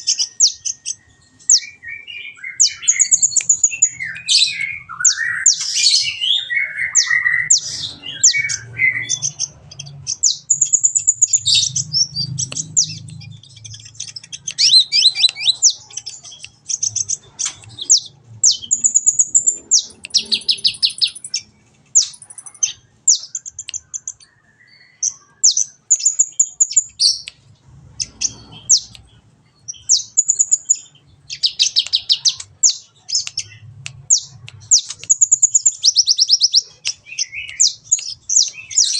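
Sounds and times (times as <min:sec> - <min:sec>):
sunbird singing high trills: 0:00.0 - 0:27.3, 0:28.0 - 0:38.9.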